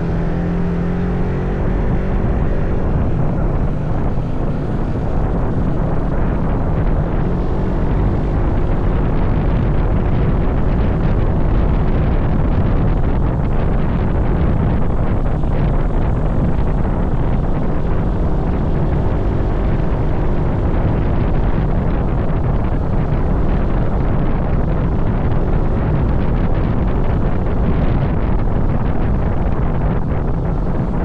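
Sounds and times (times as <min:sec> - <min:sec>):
moving vehicle rumble: 0:00.0 - 0:31.0
wind buffeting microphone: 0:00.0 - 0:31.0.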